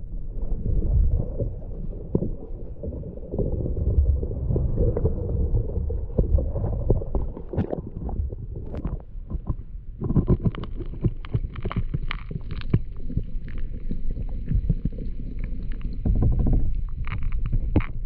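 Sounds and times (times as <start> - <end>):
underwater river rumble and gurgle: 0.0 - 18.0.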